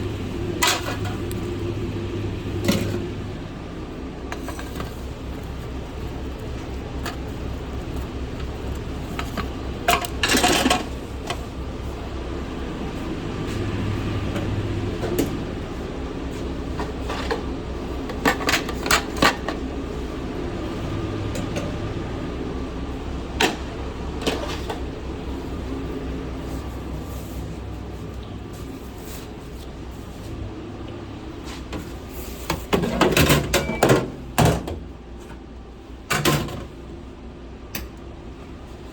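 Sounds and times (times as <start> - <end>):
kitchen equipment humming: 0.0 - 38.9.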